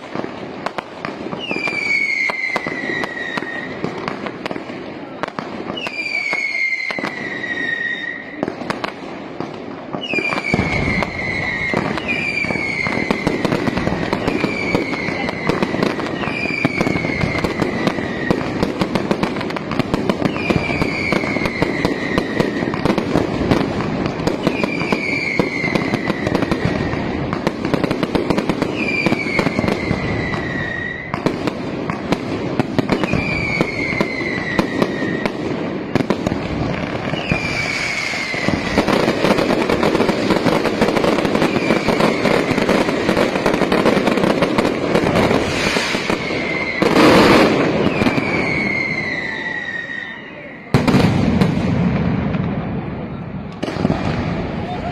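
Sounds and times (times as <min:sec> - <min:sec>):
fireworks crackling: 0:00.0 - 0:54.9
falling firework whistle: 0:01.1 - 0:04.6, 0:05.6 - 0:08.9, 0:09.9 - 0:52.6.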